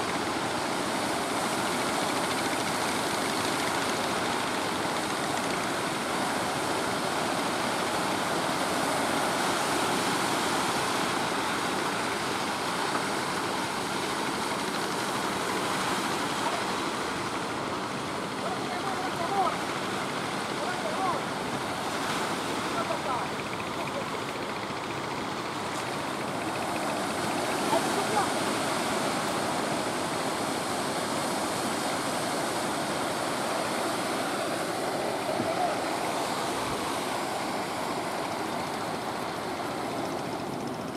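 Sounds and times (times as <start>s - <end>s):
surf rushing: 0.0s - 40.9s
wind along shore: 0.0s - 40.9s.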